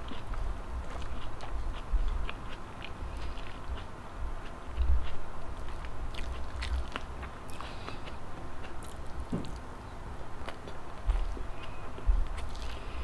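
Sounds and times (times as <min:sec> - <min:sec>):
chewing soft food: 0:00.0 - 0:13.0.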